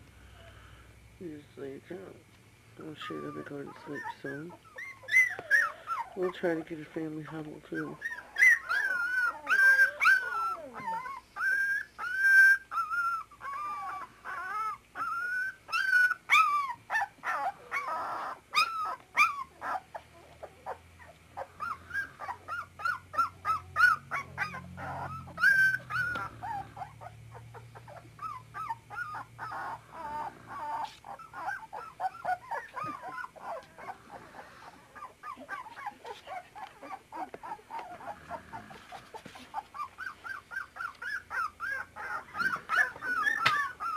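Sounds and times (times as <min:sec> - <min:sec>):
puppies whimpering and yelping: 0:02.8 - 0:43.9.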